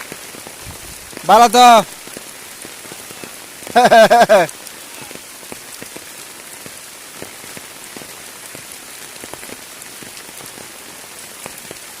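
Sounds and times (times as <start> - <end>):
heavy rain hiss: 0.0 - 12.0
raindrops striking close by: 0.0 - 12.0.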